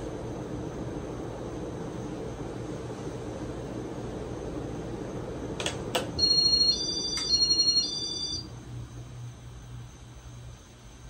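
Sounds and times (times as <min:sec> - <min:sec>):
ceiling fan air rush: 0:00.0 - 0:11.0.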